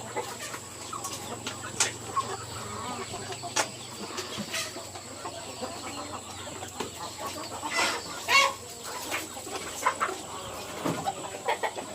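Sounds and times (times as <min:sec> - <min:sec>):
chickens clucking: 0:00.0 - 0:11.9
loud chicken calls: 0:00.0 - 0:11.9.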